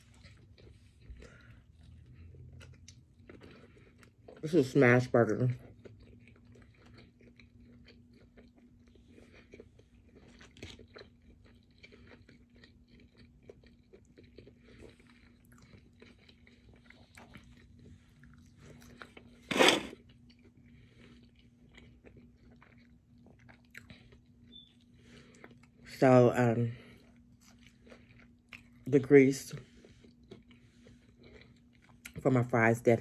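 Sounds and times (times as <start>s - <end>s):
person chewing food: 0.0s - 4.7s, 5.5s - 25.9s, 26.8s - 32.2s
faint steady hum: 0.0s - 33.0s.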